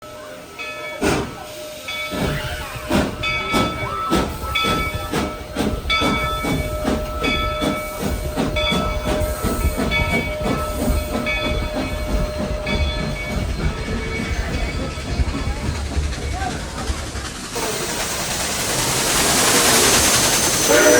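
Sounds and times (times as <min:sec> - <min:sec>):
steam locomotive chuffing: 0:00.0 - 0:20.9.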